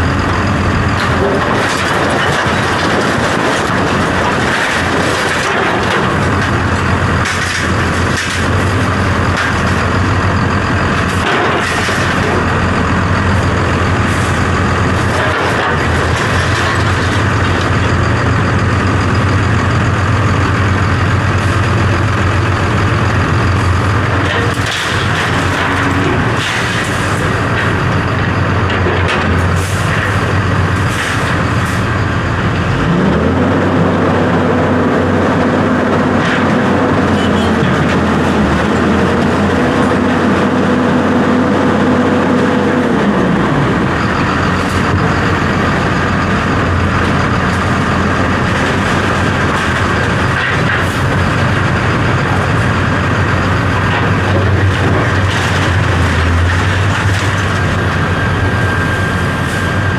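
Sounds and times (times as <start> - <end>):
engine knocks: 0.0 - 59.0
heavy diesel engine running: 0.0 - 59.9.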